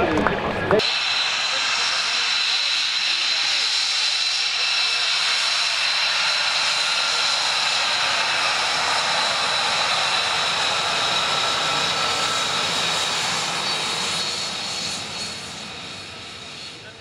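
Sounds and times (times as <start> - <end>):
jet engine whine with whistling: 0.6 - 17.0.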